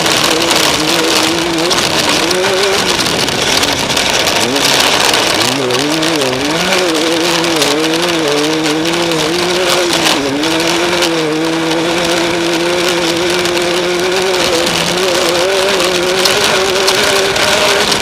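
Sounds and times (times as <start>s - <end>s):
engine running at high revs: 0.0s - 18.0s
rush of wind: 0.0s - 18.0s
terrain noise: 0.0s - 18.0s.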